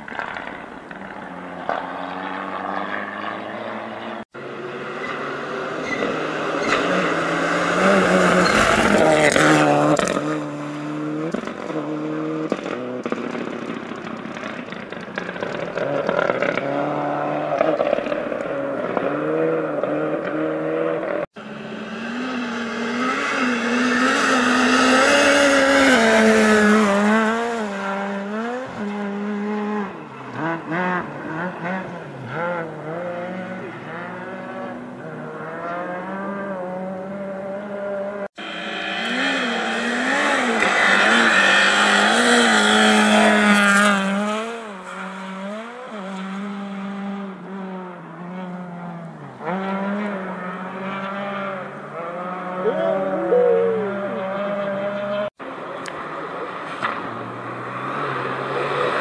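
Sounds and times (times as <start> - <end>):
rally car engine revving past: 0.1 - 55.4, 56.2 - 59.0.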